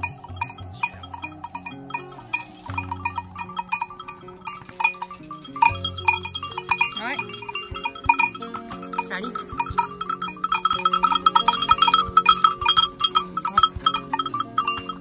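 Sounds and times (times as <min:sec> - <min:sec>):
sheep bells clanking: 0:00.0 - 0:15.0.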